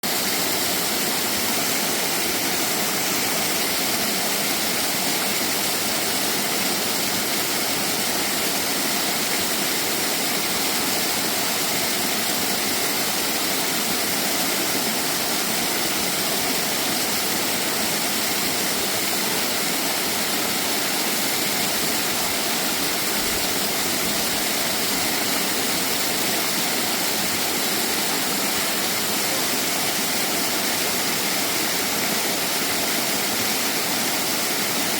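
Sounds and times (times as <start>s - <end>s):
waterfall pouring and splashing: 0.0s - 34.9s.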